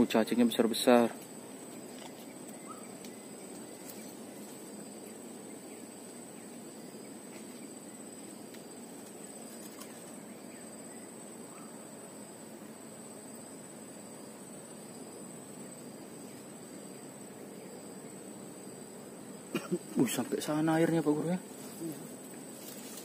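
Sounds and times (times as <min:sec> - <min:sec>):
soft low hiss: 0:00.0 - 0:23.0.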